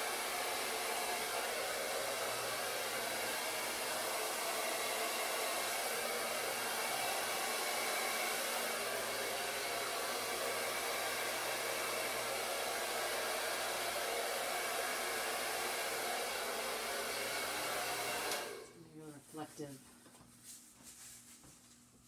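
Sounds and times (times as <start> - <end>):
hair dryer running: 0.0 - 18.8.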